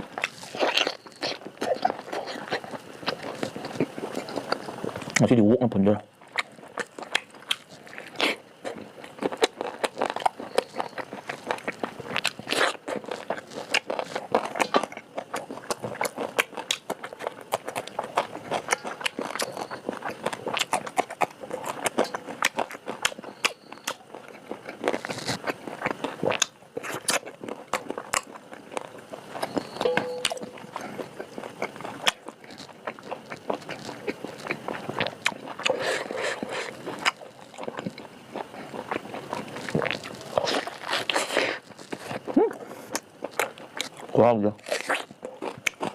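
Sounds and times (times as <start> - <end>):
person chewing food: 0.0 - 5.2, 6.2 - 45.9.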